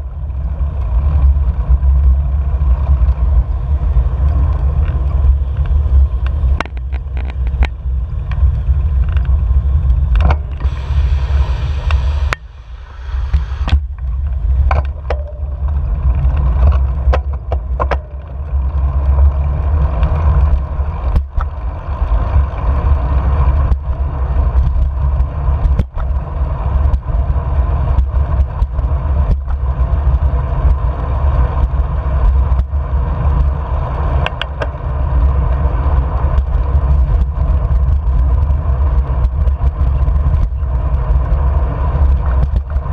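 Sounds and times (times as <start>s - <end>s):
bike knocking and rattling over bumps: 0.0s - 42.9s
wind buffeting microphone: 0.0s - 42.9s.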